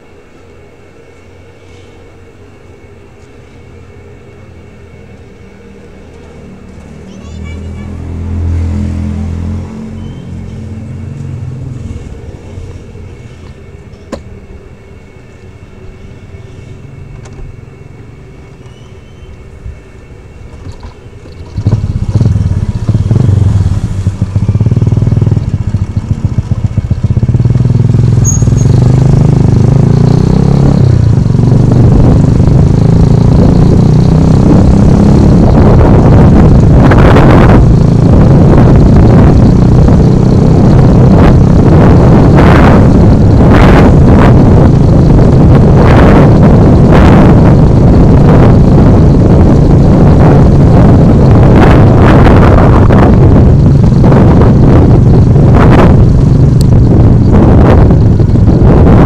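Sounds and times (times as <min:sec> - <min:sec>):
motorcycle engine: 0:02.4 - 0:15.6, 0:20.6 - 0:59.0.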